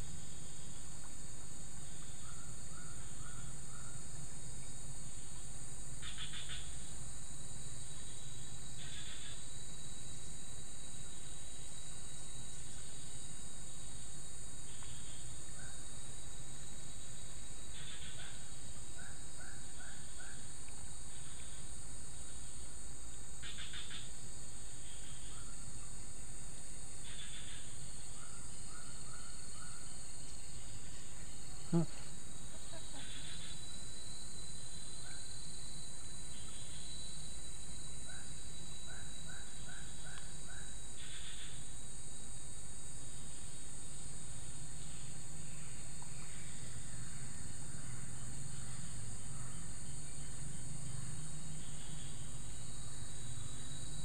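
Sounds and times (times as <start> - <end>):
insects buzzing: 0.0 - 54.0
thin whine: 0.0 - 54.0.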